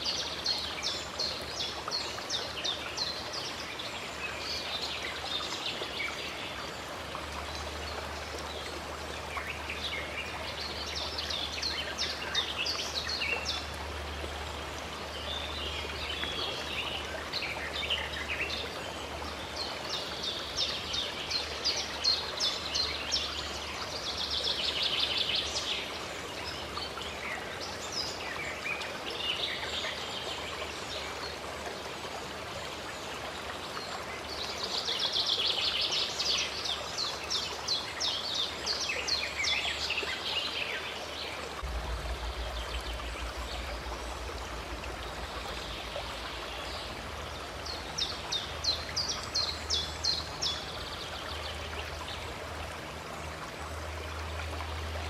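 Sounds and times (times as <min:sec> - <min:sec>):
running water rushing: 0:00.0 - 0:55.0
songbirds chirping: 0:00.0 - 0:55.0.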